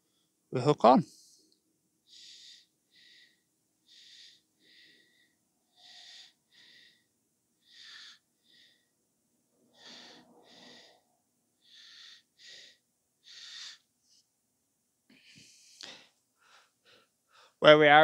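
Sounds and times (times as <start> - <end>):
person breathing: 1.1 - 9.0, 9.6 - 14.3, 15.1 - 17.6.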